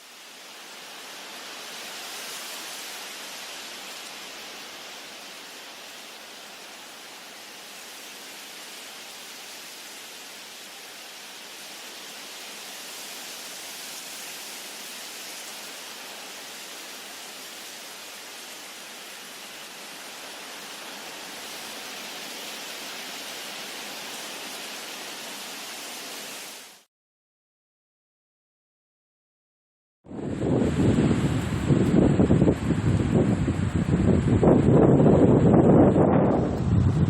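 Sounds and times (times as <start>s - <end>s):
wind through trees: 0.0s - 26.9s, 30.1s - 37.0s.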